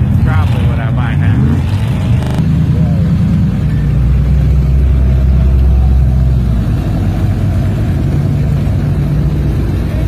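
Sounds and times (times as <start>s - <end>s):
engine running low drone: 0.0s - 10.0s.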